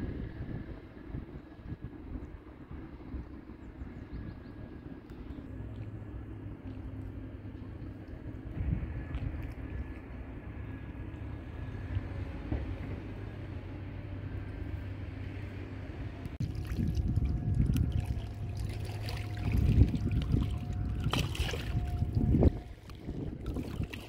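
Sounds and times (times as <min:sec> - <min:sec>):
wind buffeting microphone: 0:00.0 - 0:05.6, 0:06.3 - 0:14.5, 0:16.1 - 0:24.0
steady low hum: 0:00.0 - 0:24.0.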